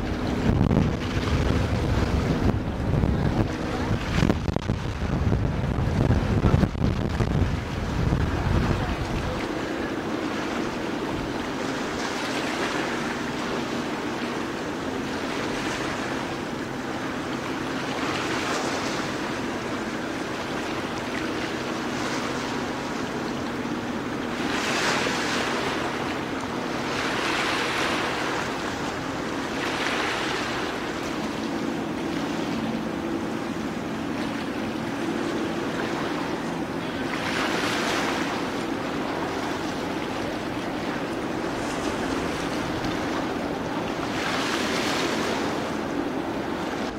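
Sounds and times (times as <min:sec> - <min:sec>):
sea waves washing: 0:00.0 - 0:46.9
ship engine drone: 0:00.0 - 0:46.9.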